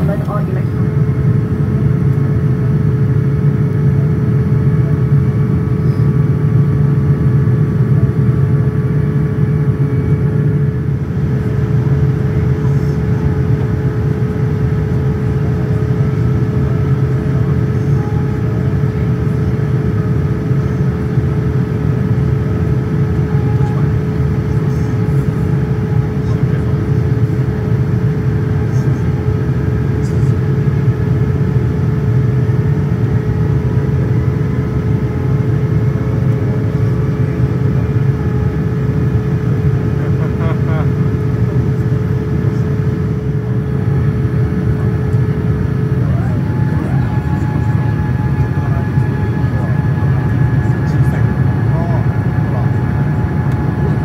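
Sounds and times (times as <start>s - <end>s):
airliner cabin rumble: 0.0s - 54.0s
constant mid-pitched hum: 0.0s - 54.0s.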